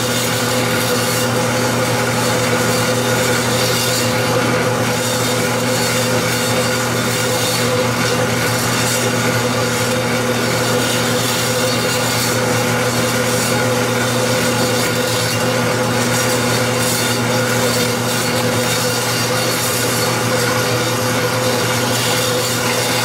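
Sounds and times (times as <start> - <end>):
motor hum: 0.0 - 23.0
power saw cutting steel bar: 0.0 - 23.0.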